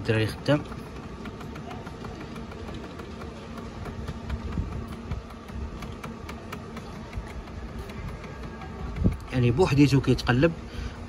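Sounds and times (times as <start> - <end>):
faint ticks and knocks: 0.0 - 11.0
incubator motor humming: 0.0 - 11.0.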